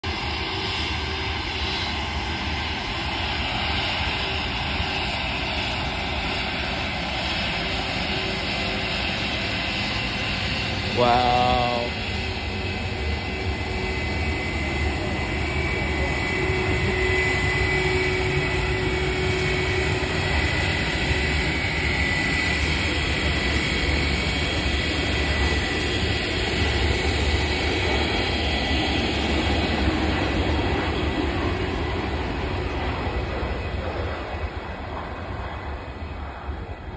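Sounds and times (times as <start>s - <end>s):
jet airliner engines rumbling: 0.0s - 36.9s.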